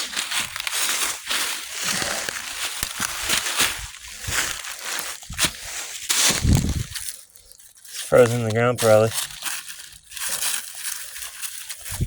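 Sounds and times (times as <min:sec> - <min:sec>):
crunching on frozen ground: 0:00.0 - 0:12.0.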